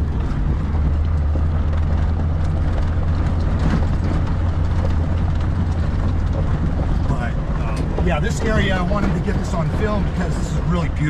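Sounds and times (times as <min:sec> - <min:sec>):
engine and drivetrain drone: 0:00.0 - 0:11.0.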